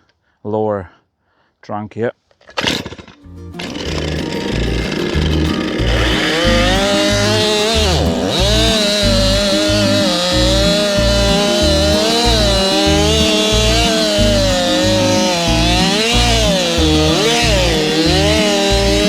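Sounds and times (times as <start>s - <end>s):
chainsaw cutting tree trunk: 2.6s - 19.0s.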